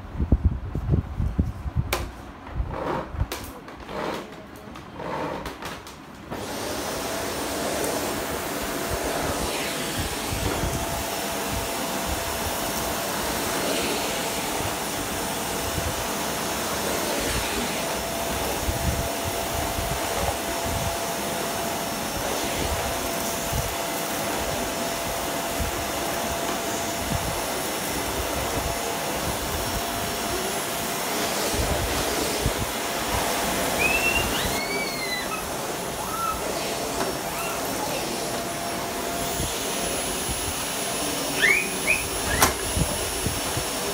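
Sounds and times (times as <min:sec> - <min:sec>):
vacuum cleaner running on a rug: 0:06.2 - 0:43.9.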